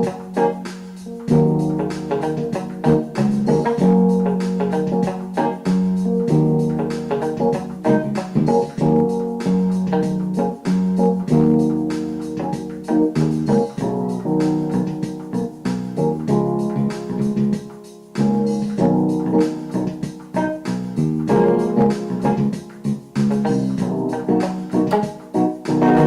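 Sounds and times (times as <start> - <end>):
piano and organ music: 0.0 - 26.0.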